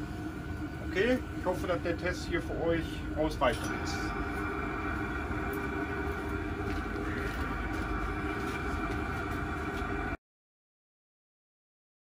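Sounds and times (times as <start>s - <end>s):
diesel heater droning: 0.0s - 10.2s.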